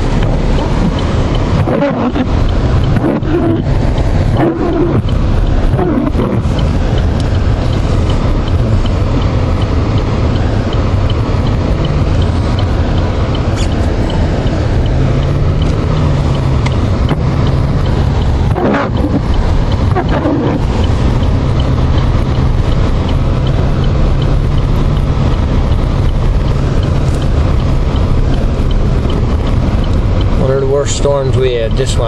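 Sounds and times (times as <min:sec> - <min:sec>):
car engine and tyre rumble: 0:00.0 - 0:32.0
faint regular tick: 0:00.0 - 0:32.0.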